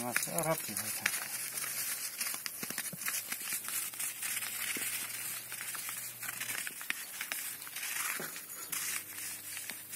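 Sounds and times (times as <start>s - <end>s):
puppies scrabbling on turf: 0.0s - 9.9s.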